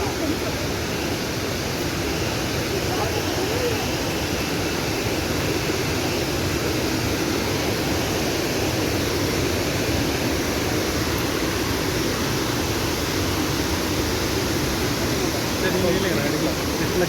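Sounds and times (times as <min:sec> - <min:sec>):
large waterfall rushing: 0:00.0 - 0:17.0.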